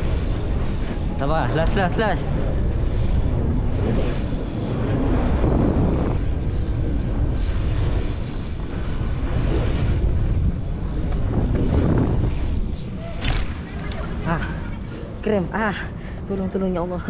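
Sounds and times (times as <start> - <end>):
bike tyres rolling on concrete: 0.0 - 17.0
wind on microphone: 0.0 - 17.0.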